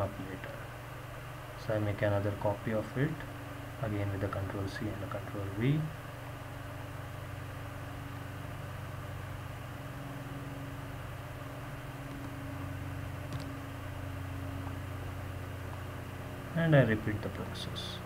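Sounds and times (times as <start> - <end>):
room equipment hum and hiss: 0.0 - 18.0.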